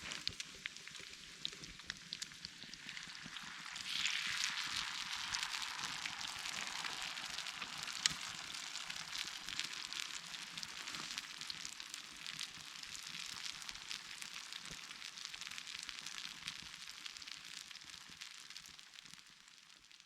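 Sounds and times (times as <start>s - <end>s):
campfire crackling and popping: 0.0s - 20.0s
food sizzling in a pan: 0.0s - 20.0s.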